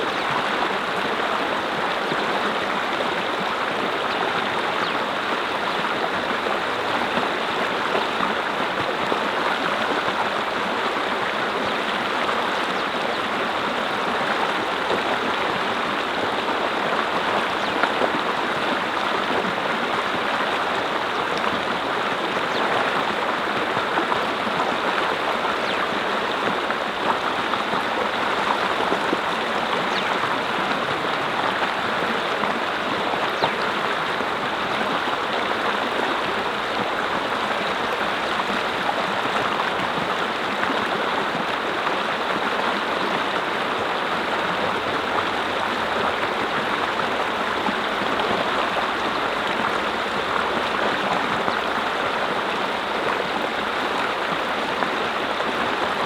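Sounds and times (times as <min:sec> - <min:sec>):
stream water rushing and babbling: 0:00.0 - 0:56.0.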